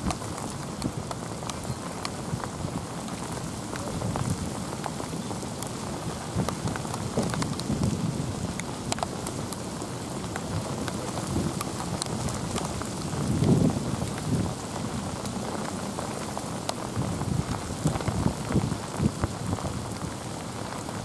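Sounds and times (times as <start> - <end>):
heavy rain: 0.0 - 21.0
raindrops ticking close by: 0.0 - 21.0.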